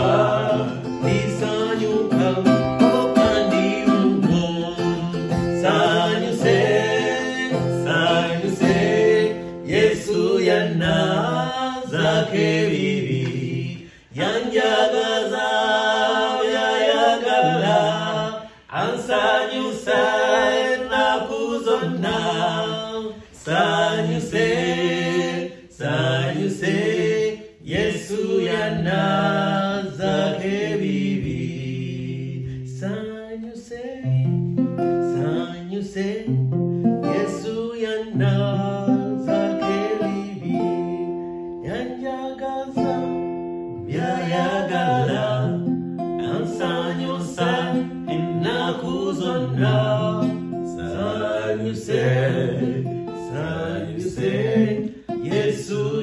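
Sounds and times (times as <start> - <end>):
strummed acoustic guitar: 0.0 - 33.0, 34.0 - 56.0
men singing a hymn: 0.0 - 34.2, 35.0 - 43.2, 43.8 - 56.0.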